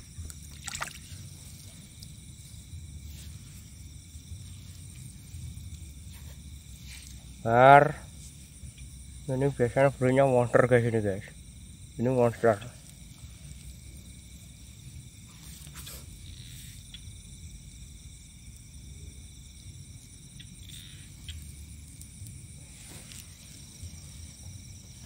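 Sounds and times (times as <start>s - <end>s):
crickets and insects chirring: 0.0s - 25.0s.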